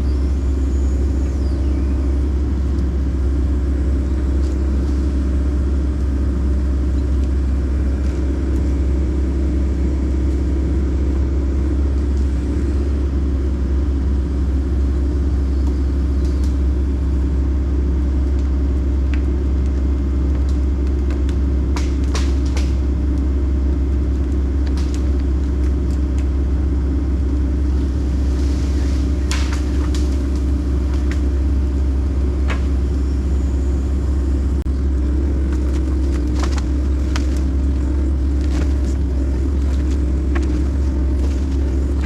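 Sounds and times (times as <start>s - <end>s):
excavator diesel engine rumbling: 0.0s - 42.0s.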